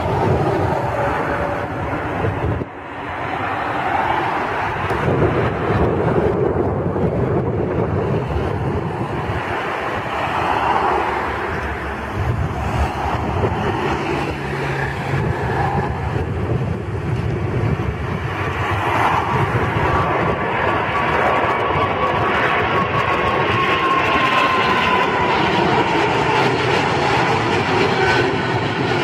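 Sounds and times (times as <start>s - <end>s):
jet airliner roaring: 0.0s - 29.0s.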